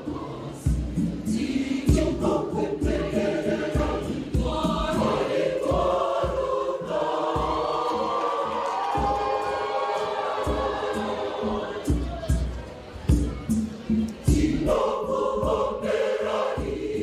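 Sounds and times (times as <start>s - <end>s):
choir singing in parts: 0.0s - 12.6s, 13.5s - 17.0s.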